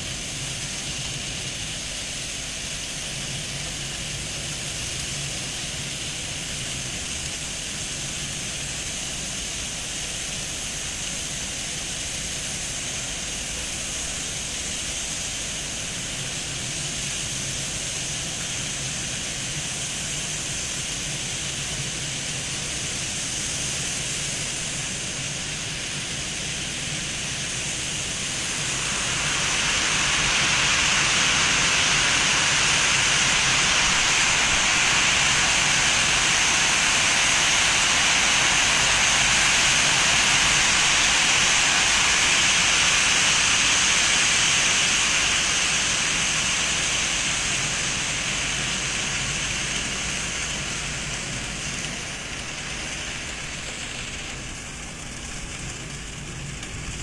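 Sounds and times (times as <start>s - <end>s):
faint high whine: 0.0s - 57.0s
rushing hiss: 0.0s - 57.0s.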